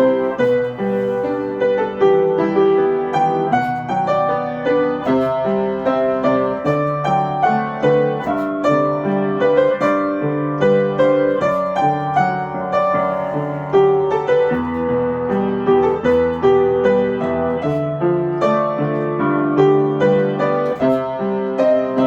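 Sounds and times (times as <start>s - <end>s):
solo piano: 0.0s - 22.0s.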